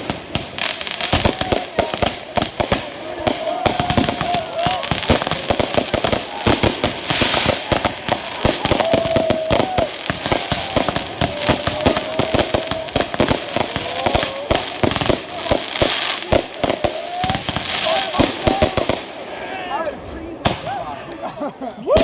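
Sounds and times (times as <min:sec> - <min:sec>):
fireworks cracking and popping: 0:00.0 - 0:19.2.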